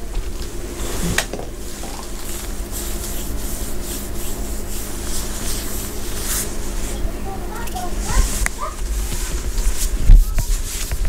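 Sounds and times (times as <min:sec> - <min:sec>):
rubbing and scraping of wires: 0:00.0 - 0:11.0
steady low hum: 0:00.0 - 0:11.0.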